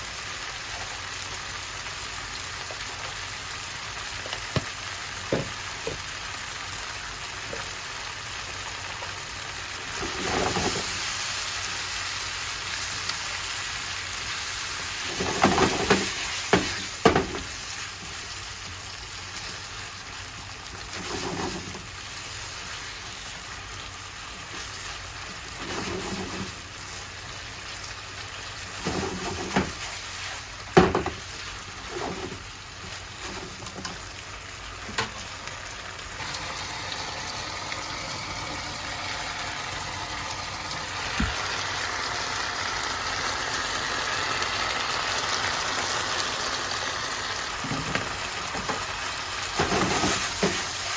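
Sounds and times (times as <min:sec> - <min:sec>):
food sizzling in a frying pan: 0:00.0 - 0:50.9.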